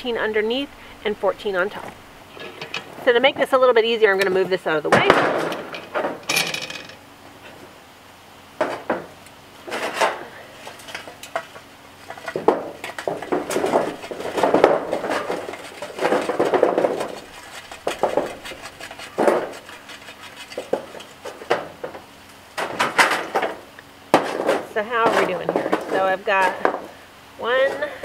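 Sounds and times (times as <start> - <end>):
charcoal rattling out of metal starter: 0.0 - 3.6, 4.3 - 7.1, 8.7 - 28.0.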